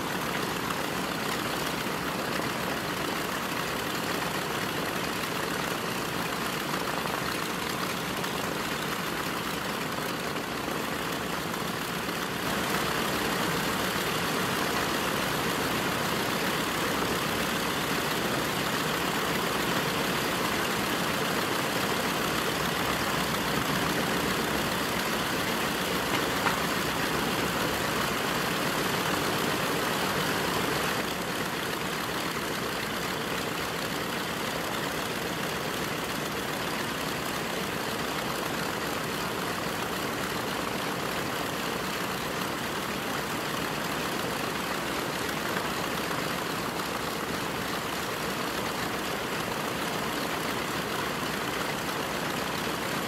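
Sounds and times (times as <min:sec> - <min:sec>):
aircraft radial engines idling: 0:00.0 - 0:53.0.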